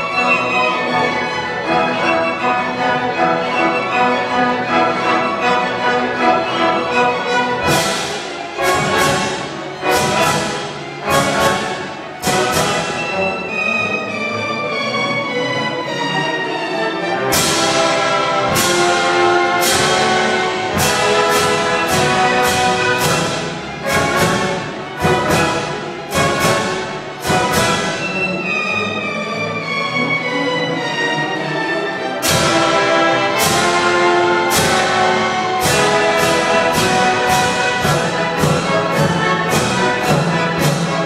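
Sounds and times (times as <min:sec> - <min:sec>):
symphony orchestra playing: 0:00.0 - 0:41.0.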